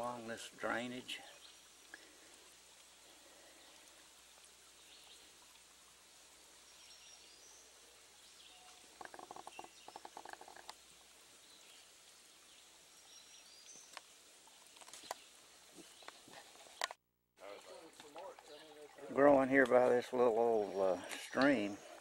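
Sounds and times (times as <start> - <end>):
faint stream hiss: 0.0 - 22.0.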